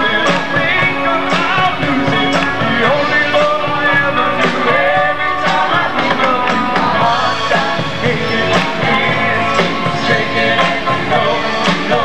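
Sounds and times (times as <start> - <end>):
drum kit beat: 0.0 - 12.0
electric guitar: 0.0 - 12.0
keyboard: 0.0 - 12.0
person singing: 0.0 - 12.0.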